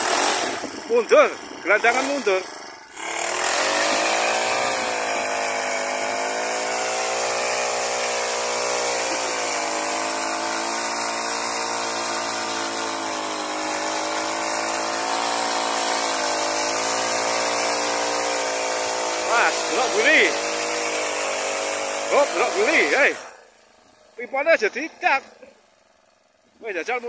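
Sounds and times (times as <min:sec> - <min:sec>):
brush cutter engine revving: 0:00.0 - 0:27.0.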